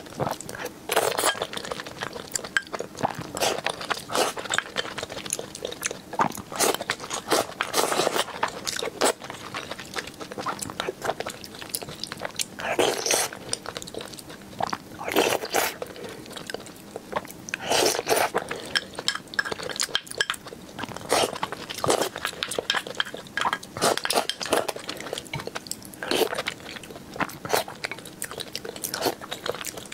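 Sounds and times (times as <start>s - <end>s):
wet chewing: 0.1s - 29.9s.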